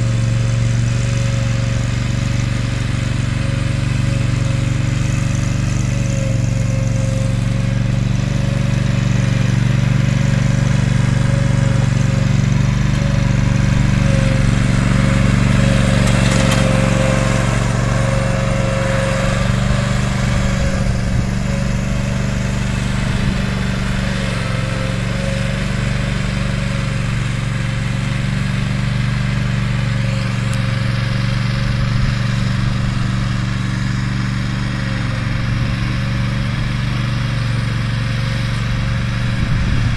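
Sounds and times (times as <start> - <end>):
mower engine running: 0.0 - 39.9.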